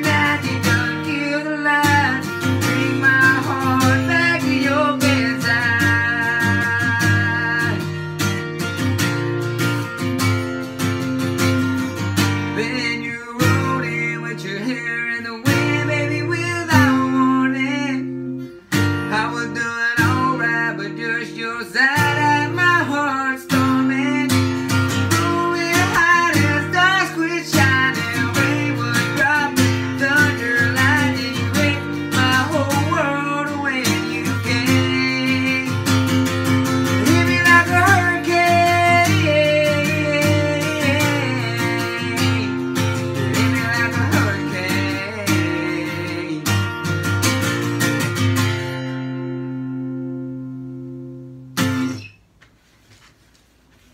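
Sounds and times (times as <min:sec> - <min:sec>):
man singing: 0:00.0 - 0:08.4, 0:11.9 - 0:47.7
strummed acoustic guitar: 0:00.0 - 0:53.9.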